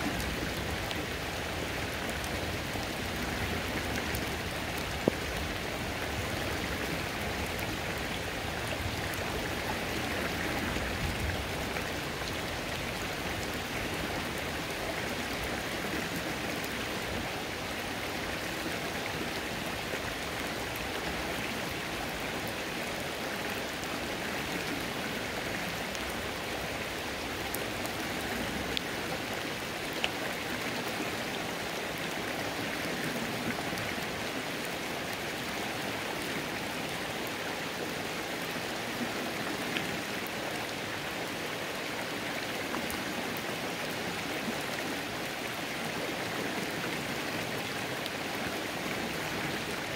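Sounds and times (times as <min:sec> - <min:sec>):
rain falling on a creek: 0:00.0 - 0:49.9.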